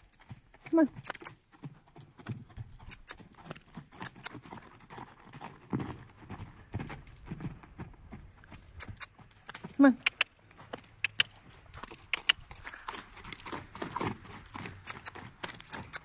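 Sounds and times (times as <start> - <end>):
horse hoofbeats on sand: 0.0 - 16.0.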